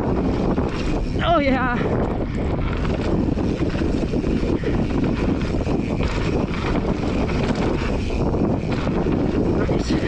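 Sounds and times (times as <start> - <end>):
mountain bike rattling over dirt: 0.0 - 10.0
wind buffeting microphone: 0.0 - 10.0.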